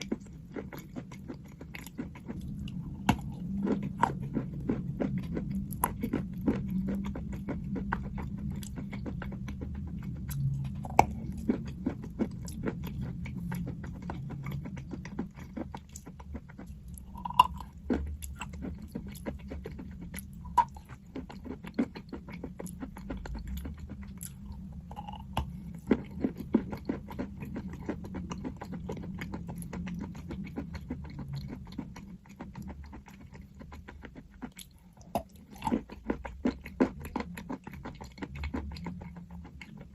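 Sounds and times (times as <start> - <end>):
person chewing crunchy chalk: 0.0 - 39.9.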